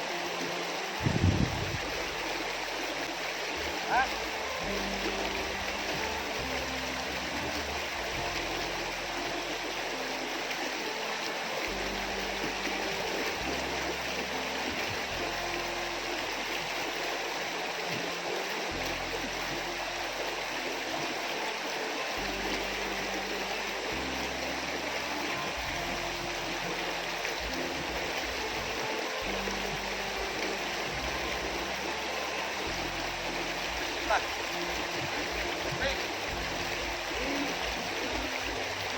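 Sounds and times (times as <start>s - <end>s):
music of sustained low notes: 0.0s - 38.9s
river water flowing: 0.0s - 38.9s.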